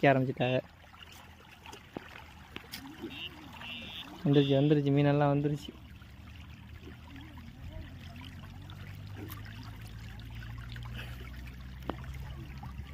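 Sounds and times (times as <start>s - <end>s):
water pouring into pond: 0.0s - 12.9s.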